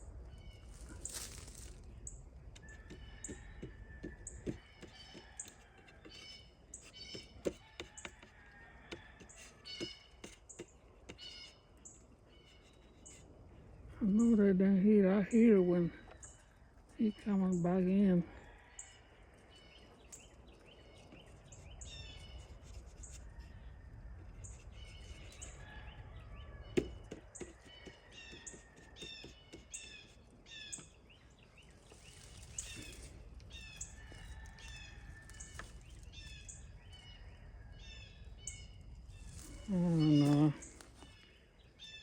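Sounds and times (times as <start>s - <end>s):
small birds chirping: 0.0s - 8.3s, 9.2s - 42.0s.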